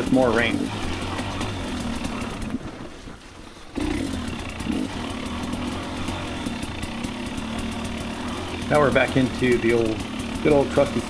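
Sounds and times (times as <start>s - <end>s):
two-stroke dirt bike engine: 0.0s - 11.0s.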